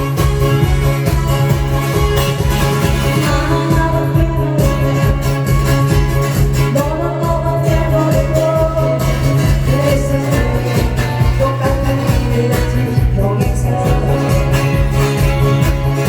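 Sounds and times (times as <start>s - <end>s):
loud music with steady beat: 0.0s - 16.0s.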